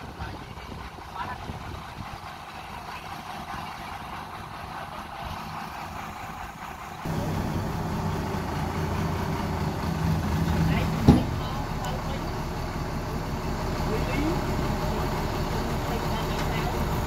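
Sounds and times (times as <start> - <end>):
dump truck engine revving: 0.1 - 17.0.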